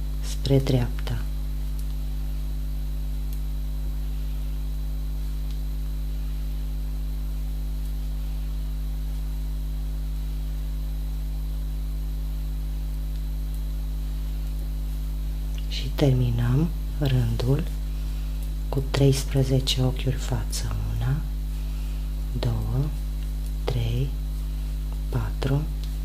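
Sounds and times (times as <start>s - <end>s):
buzzy mains hum: 0.0s - 26.0s.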